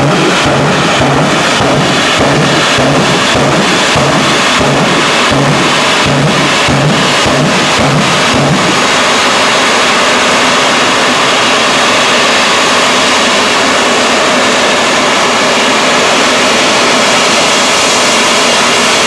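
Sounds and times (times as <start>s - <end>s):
jet turbine engines roaring: 0.0s - 19.0s.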